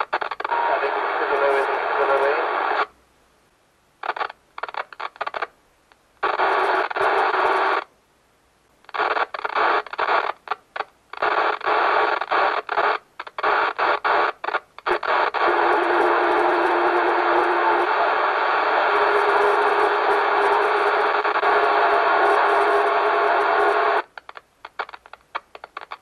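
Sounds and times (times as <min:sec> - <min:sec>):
radio static hiss: 0:00.0 - 0:03.0, 0:04.0 - 0:07.9, 0:08.8 - 0:26.0.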